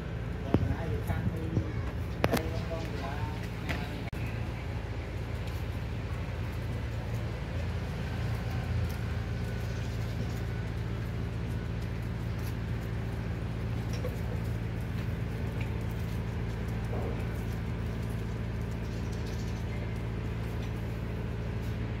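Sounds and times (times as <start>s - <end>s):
low mechanical hum: 0.0s - 22.0s
puppies eating: 0.3s - 22.0s.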